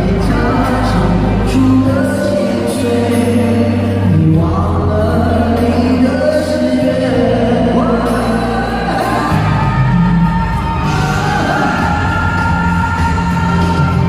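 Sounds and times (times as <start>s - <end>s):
band playing pop-rock ballad: 0.0s - 14.0s
man singing: 0.0s - 14.0s.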